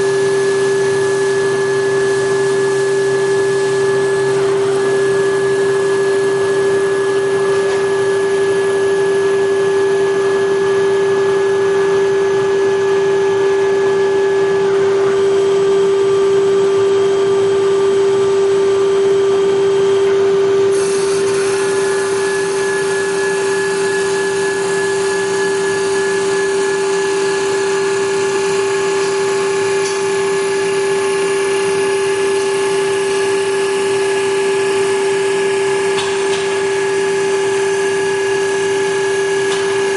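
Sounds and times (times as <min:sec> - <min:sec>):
wood lathe motor whine: 0:00.0 - 0:39.9.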